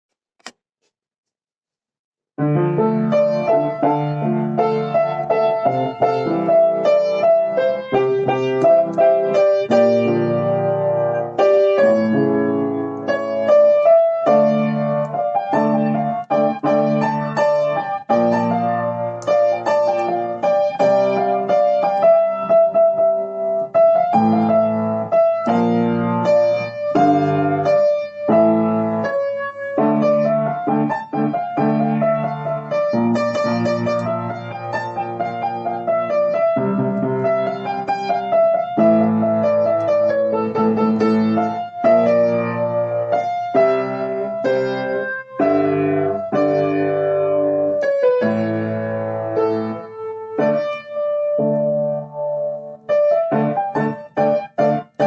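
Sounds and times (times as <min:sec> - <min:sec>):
piano music: 0:02.4 - 0:55.0.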